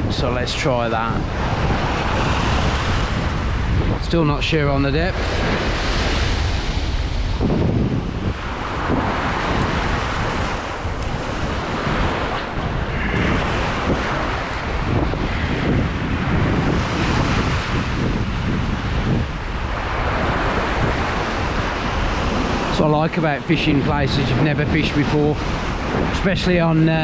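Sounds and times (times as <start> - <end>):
sea waves washing over rocks: 0.0 - 27.0
wind buffeting microphone: 0.0 - 27.0.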